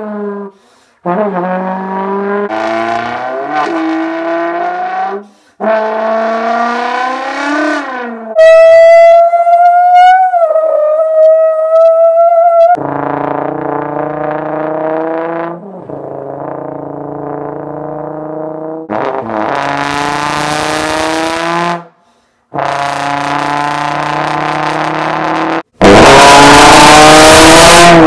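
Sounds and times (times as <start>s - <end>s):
trombone imitating revving engine: 0.0s - 21.9s, 22.5s - 28.0s.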